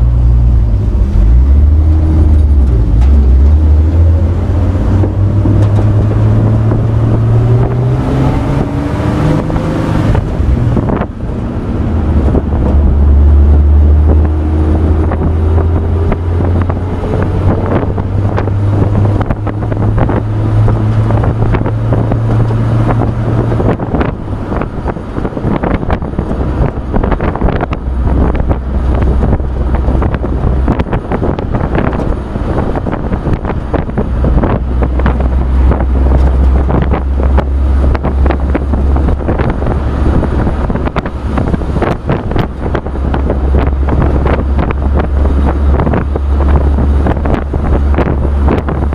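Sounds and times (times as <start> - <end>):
road noise: 0.0 - 48.9
truck engine hum: 0.0 - 48.9
wind buffeting microphone: 0.0 - 48.9.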